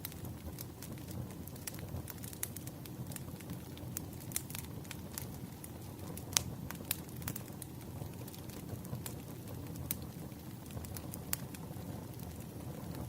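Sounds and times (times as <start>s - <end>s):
firewood crackling: 0.0s - 13.0s
low rumble of flames: 0.0s - 13.0s.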